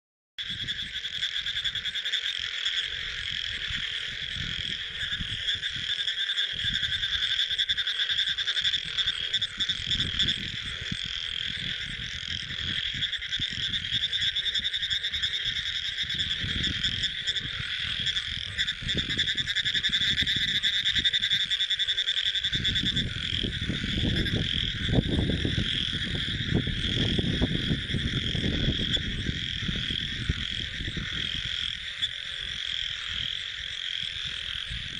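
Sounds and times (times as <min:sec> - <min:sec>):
frogs calling: 0:00.4 - 0:34.9.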